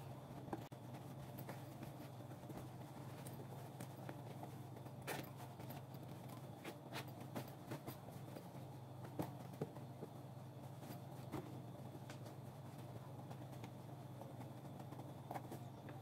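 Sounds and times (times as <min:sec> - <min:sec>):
fabric rustling: 0:00.0 - 0:13.6
steady low hum: 0:00.0 - 0:16.0.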